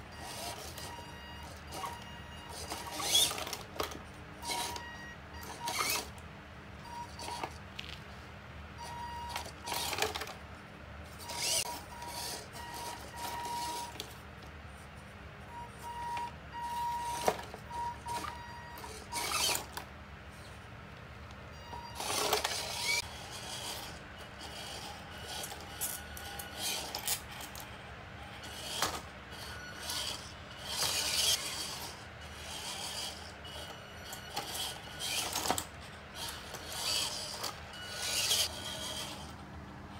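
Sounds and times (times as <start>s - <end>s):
toy car motor whirring: 0.0s - 6.2s, 6.8s - 8.0s, 8.8s - 10.4s, 11.1s - 14.2s, 15.5s - 20.6s, 21.6s - 39.4s.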